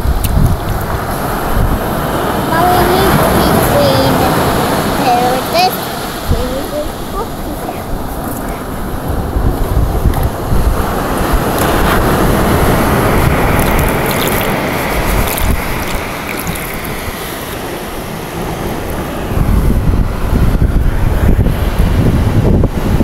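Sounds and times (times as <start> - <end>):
surf washing on beach: 0.0 - 23.0
wind on microphone: 0.0 - 23.0.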